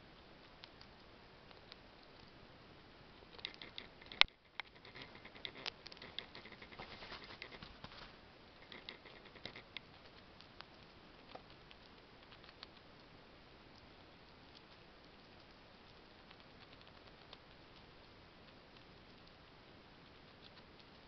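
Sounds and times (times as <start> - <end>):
squirrel gnawing a nut: 0.0 - 21.0.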